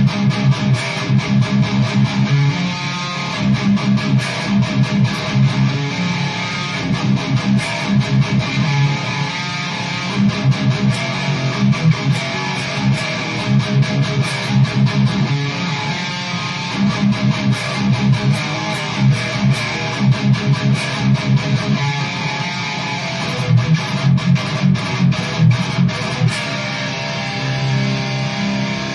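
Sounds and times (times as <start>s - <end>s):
distorted electric guitar riffs: 0.0s - 28.9s.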